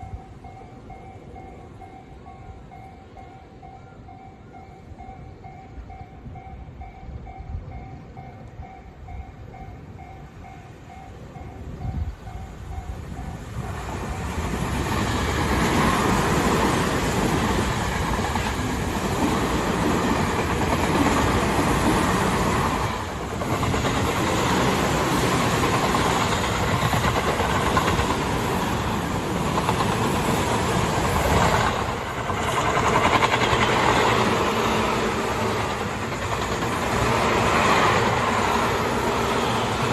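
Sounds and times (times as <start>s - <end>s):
train wheels rumbling over rails: 7.7s - 39.9s.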